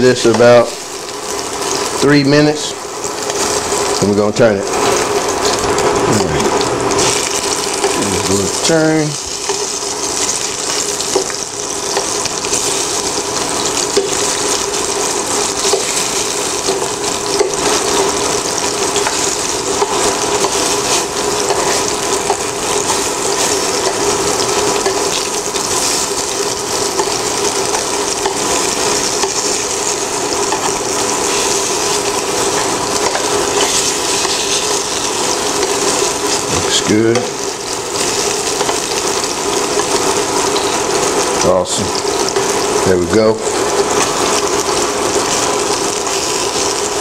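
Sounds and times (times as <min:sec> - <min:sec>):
fish sizzling in hot oil: 0:00.0 - 0:47.0.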